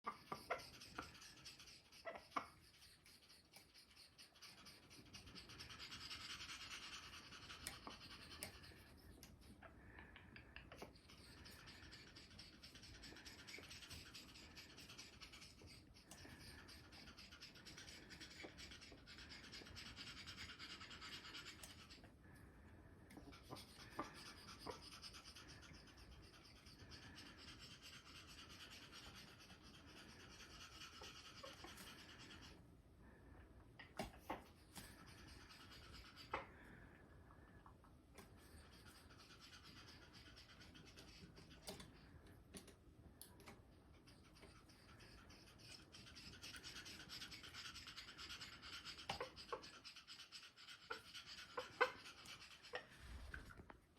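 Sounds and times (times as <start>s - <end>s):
parrot raspy breathy sound: 0.0s - 42.2s, 43.4s - 53.6s.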